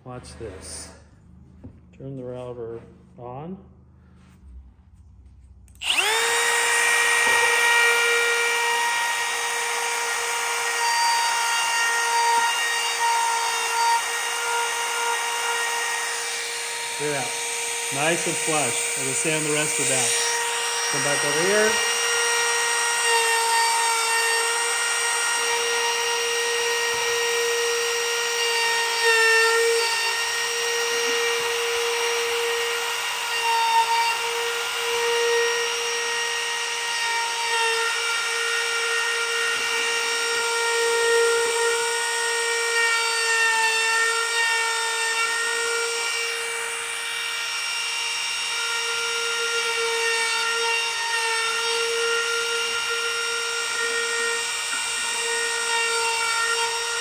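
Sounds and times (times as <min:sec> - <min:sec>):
trim router high whine: 0:05.6 - 0:57.0.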